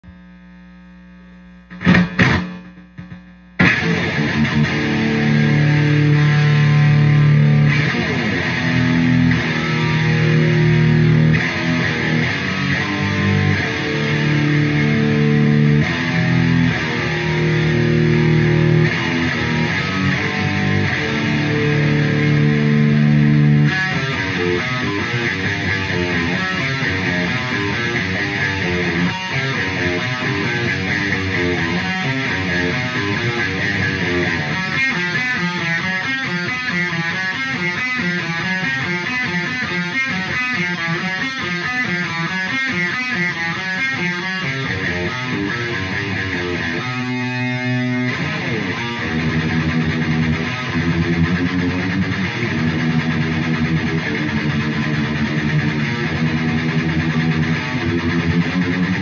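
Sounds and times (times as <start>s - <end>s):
amp hum: 0.0s - 59.0s
electric guitar chords and riffs: 0.0s - 59.0s.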